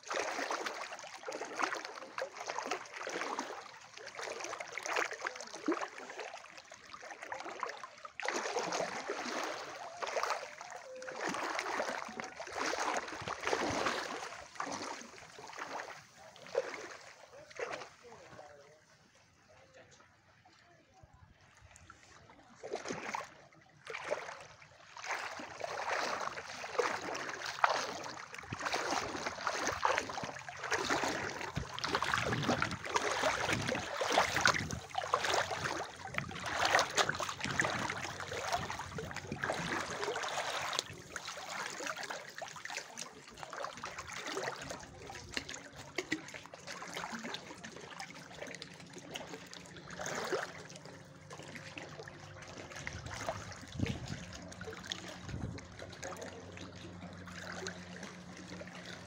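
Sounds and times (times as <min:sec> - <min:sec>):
seawater lapping and sloshing: 0:00.0 - 0:59.0.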